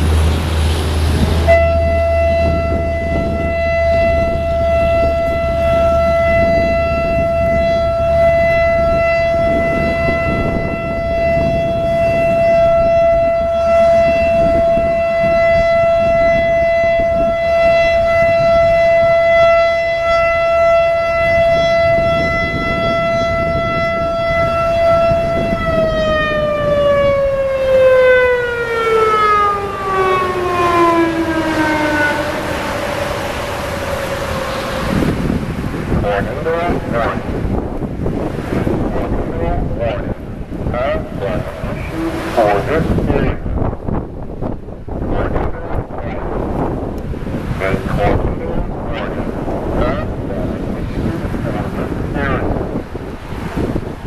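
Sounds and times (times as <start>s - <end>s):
warning siren tone: 1.1s - 54.0s.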